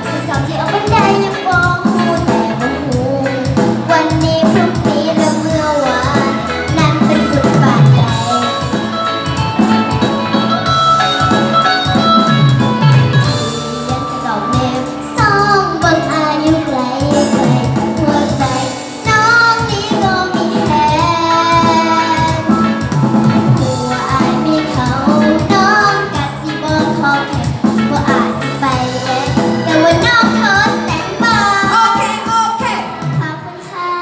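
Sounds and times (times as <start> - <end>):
girl singing into microphone: 0.0 - 9.4, 13.2 - 34.0
backing track music: 0.0 - 34.0.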